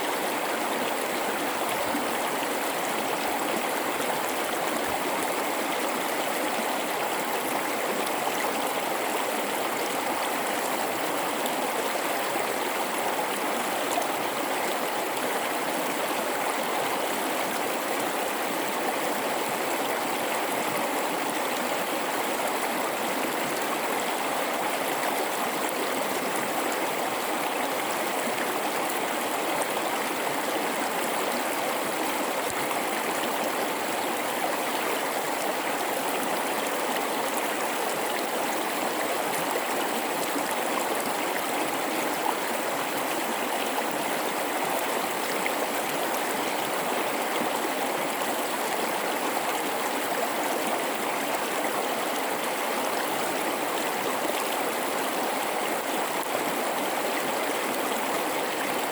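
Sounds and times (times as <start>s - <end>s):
river water babbling and rushing: 0.0s - 58.9s.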